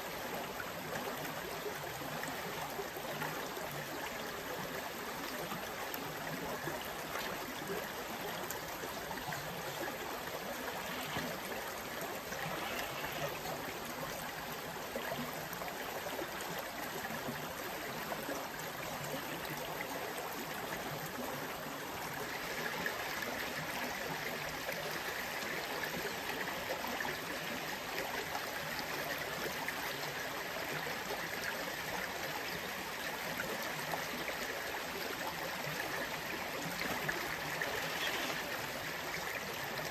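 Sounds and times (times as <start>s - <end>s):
creek water flowing over rocks: 0.0s - 39.9s.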